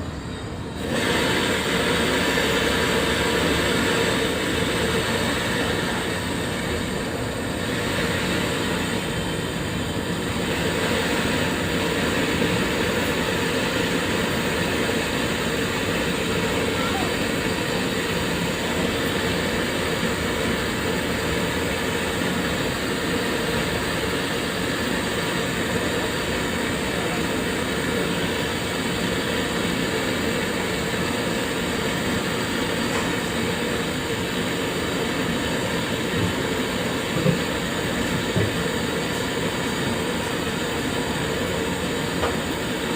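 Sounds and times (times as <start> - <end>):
mechanical running rumble: 0.0 - 42.9.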